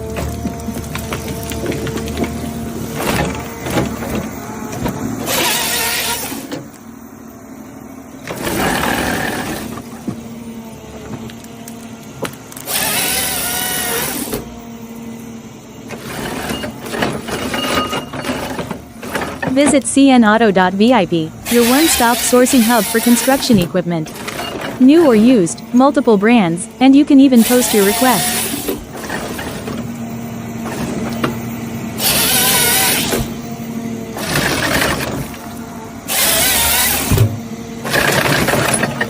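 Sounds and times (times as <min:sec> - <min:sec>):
bursts of cutting noise: 0:00.0 - 0:06.8, 0:08.2 - 0:10.5, 0:11.3 - 0:14.8, 0:18.2 - 0:39.0
machinery engine running: 0:00.0 - 0:39.0.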